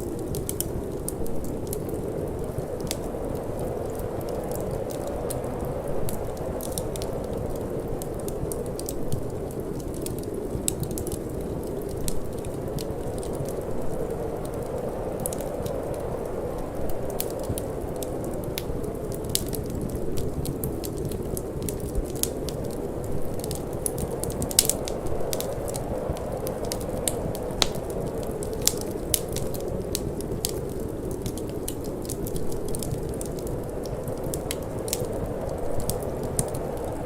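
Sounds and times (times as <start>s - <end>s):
low rush of wind: 0.0s - 37.0s
wood fire crackling and popping: 0.0s - 37.0s.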